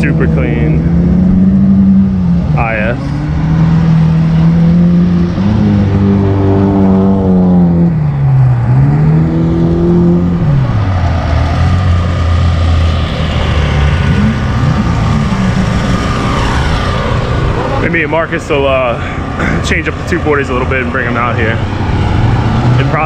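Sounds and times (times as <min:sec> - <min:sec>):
car engine revving hard: 0:00.0 - 0:18.3, 0:19.2 - 0:23.0.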